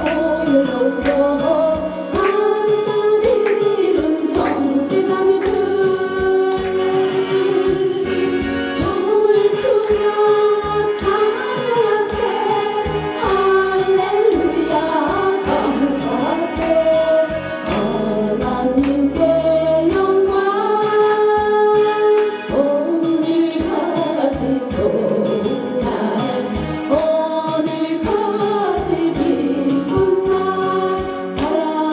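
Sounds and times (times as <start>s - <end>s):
instrumental accompaniment with beat: 0.0s - 31.9s
gospel choir singing: 4.0s - 21.8s, 22.8s - 31.9s.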